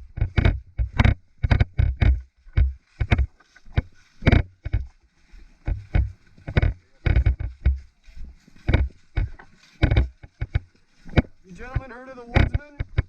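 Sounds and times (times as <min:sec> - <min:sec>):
footsteps on forest floor: 0:00.0 - 0:13.0.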